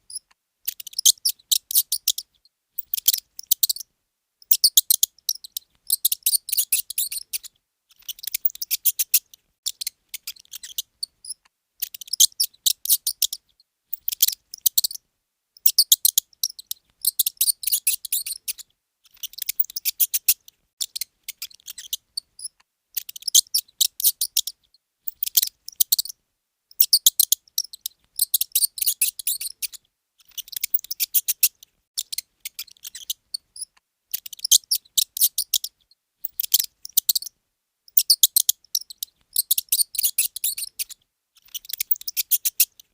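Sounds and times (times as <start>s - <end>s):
mouse squeaking: 0.0s - 15.0s, 15.6s - 42.9s.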